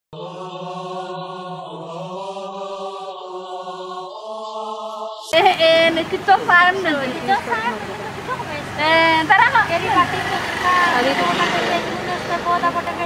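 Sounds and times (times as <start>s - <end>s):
chant-like held tones: 0.2s - 13.0s.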